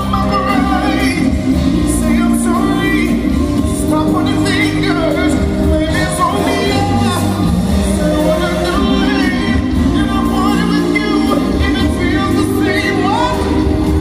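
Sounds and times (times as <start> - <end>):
live pop band: 0.0 - 14.0
people singing: 0.0 - 14.0.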